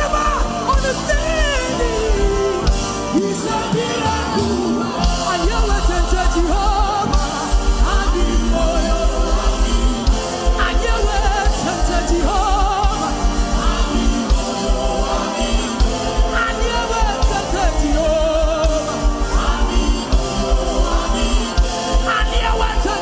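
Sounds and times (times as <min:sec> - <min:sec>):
instrumental backing: 0:00.0 - 0:23.0
pulsing bass beat: 0:00.0 - 0:23.0.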